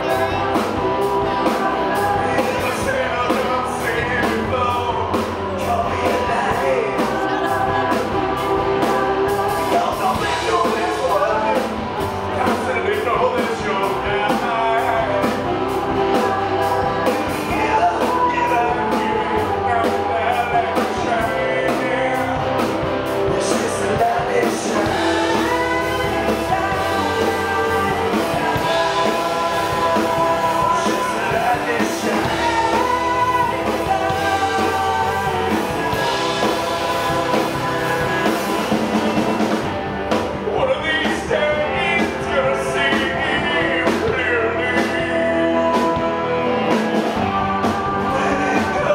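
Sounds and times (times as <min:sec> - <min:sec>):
live rock band playing: 0:00.0 - 0:48.9
man singing: 0:00.0 - 0:48.9.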